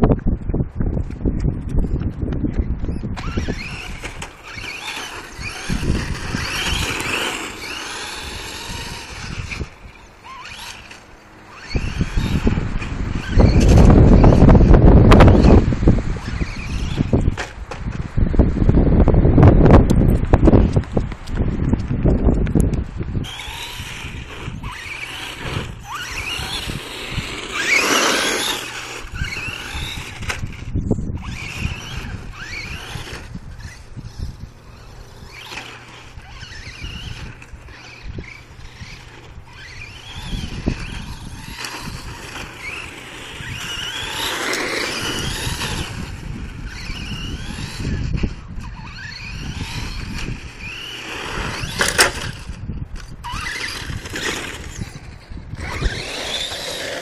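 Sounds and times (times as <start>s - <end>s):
toy car electric motor whining: 3.0s - 17.6s, 22.5s - 57.0s.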